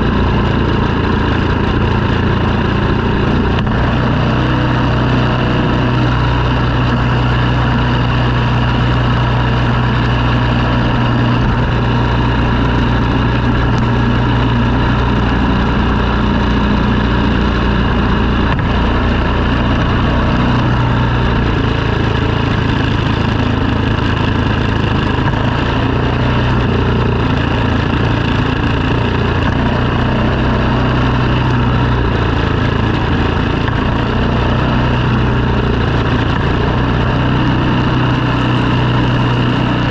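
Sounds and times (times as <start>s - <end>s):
snow-clearing machine engine running: 0.0s - 39.9s.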